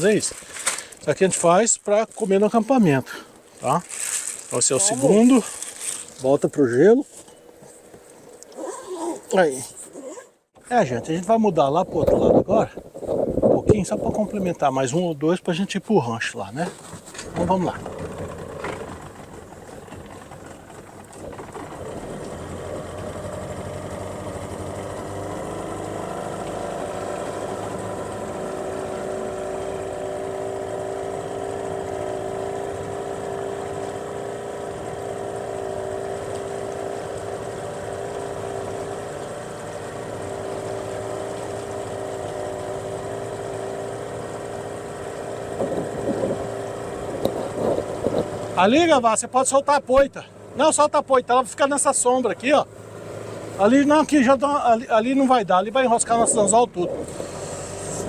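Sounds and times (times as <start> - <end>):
outboard motor running: 0.0 - 9.6, 10.4 - 58.0.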